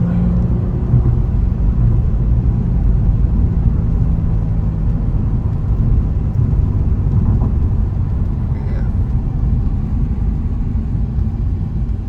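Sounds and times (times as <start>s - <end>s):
car engine low exhaust rumble: 0.0s - 12.0s.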